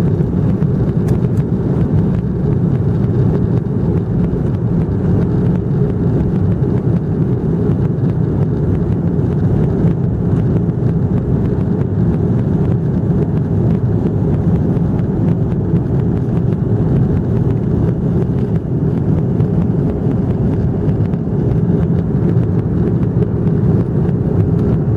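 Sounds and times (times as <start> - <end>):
aeroplane engine rumble: 0.0 - 24.9.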